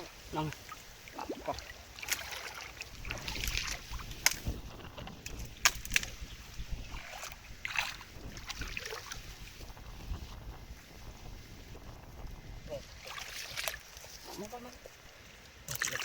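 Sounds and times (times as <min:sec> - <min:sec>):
water sloshing and splashing: 0:00.0 - 0:10.0, 0:12.8 - 0:16.0.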